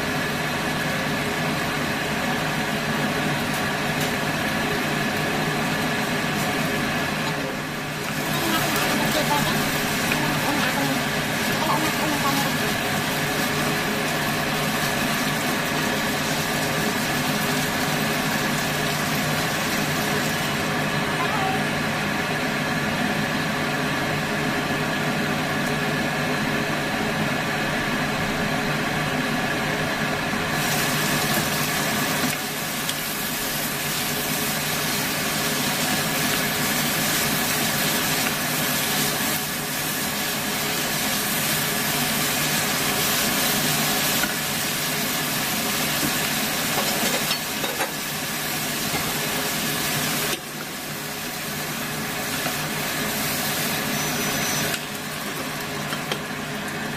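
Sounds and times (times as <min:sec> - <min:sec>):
food sizzling in a frying pan: 0:00.0 - 0:27.6, 0:29.4 - 0:56.9
hob humming: 0:00.0 - 0:56.9.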